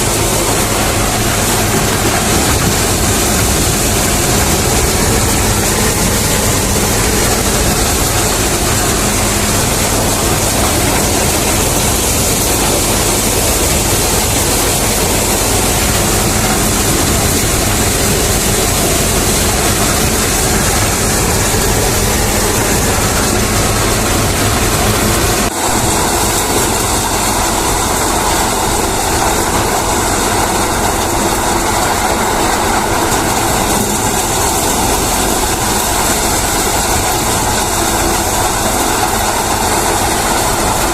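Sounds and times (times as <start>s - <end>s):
low engine drone: 0.0s - 40.9s
thresher mechanical din: 0.0s - 40.9s.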